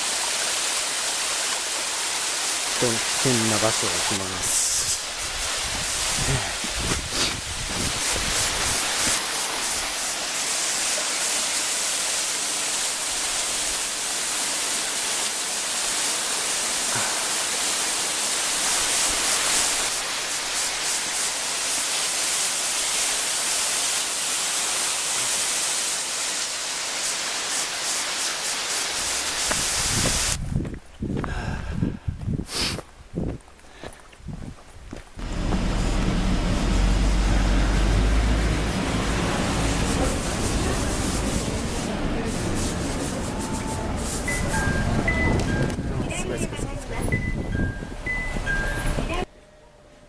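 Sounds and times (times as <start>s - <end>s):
waterfall rushing: 0.0s - 30.4s, 35.2s - 46.8s.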